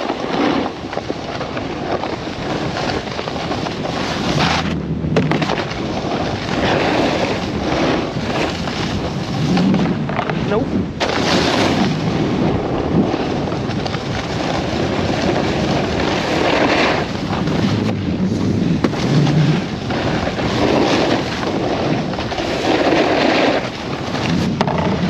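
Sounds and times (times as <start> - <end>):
snowboard scraping over snow: 0.0 - 25.0
wind buffeting microphone: 0.0 - 25.0.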